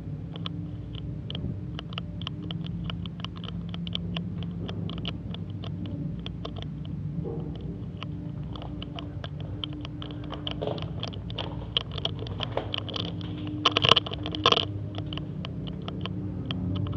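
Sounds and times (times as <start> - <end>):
low machine hum: 0.0 - 16.9
sharp irregular clicks: 0.0 - 16.9.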